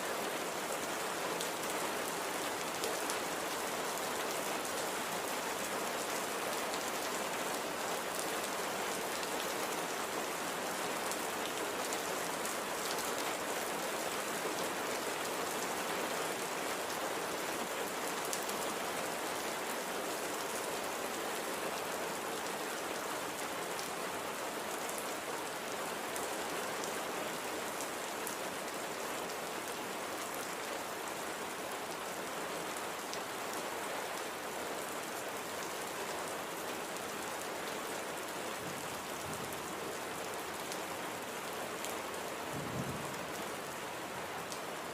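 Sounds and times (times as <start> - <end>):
light rain pattering: 0.0 - 44.9.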